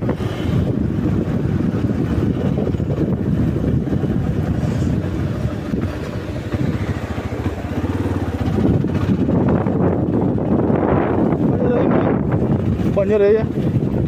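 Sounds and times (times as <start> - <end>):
motorcycle engine low throb: 0.0 - 14.0.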